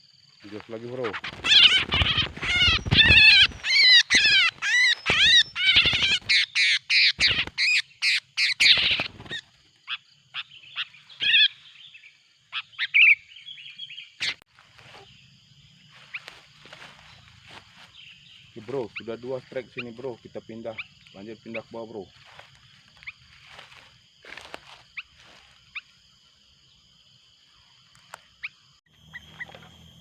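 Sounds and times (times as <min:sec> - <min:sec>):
birds chattering calls: 0:00.0 - 0:26.0.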